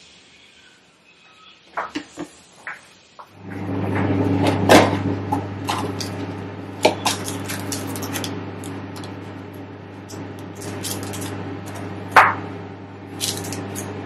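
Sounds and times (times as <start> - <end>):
low electrical hum: 1.7 - 14.0.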